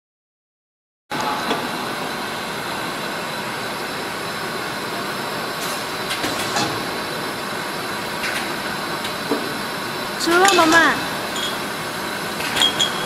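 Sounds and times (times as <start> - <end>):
printing machine hiss and hum: 1.1 - 13.0.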